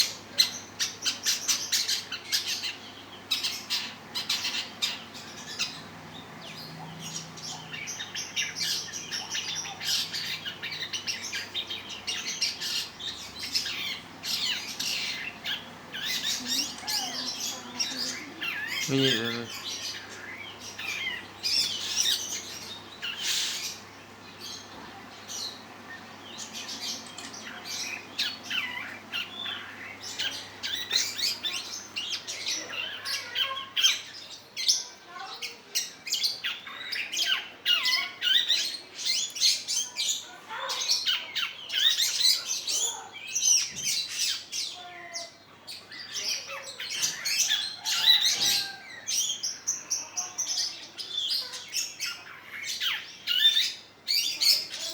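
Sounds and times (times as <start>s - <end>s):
bird singing chirps and calls: 0.0s - 54.9s.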